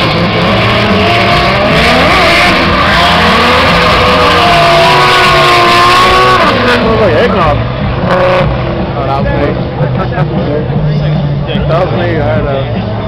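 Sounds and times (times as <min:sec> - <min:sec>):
car engine revving hard: 0:00.0 - 0:10.8.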